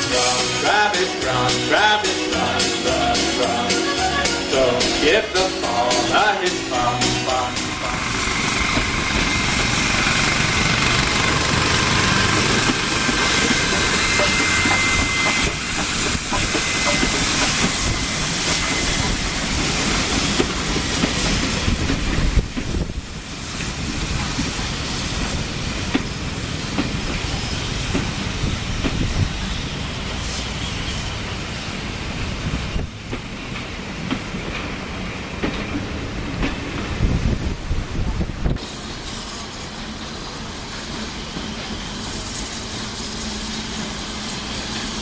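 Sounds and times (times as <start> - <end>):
steam hissing: 0.0 - 33.5, 38.5 - 45.0
wheels rumbling on rails: 0.0 - 45.0.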